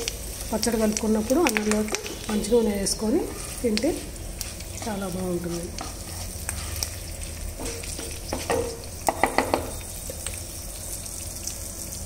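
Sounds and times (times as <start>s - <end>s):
wooden spatula stirring: 0.0s - 9.7s
oil sizzling in a pan: 0.0s - 12.0s.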